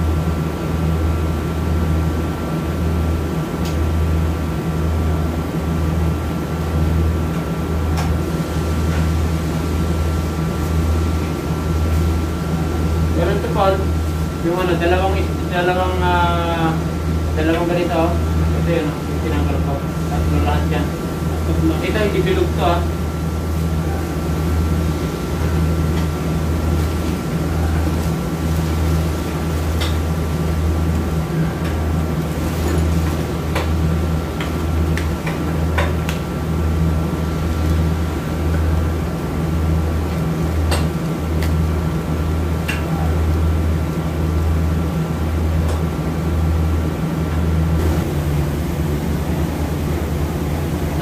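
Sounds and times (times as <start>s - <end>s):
pulsing mechanical hum: 0.0s - 51.0s.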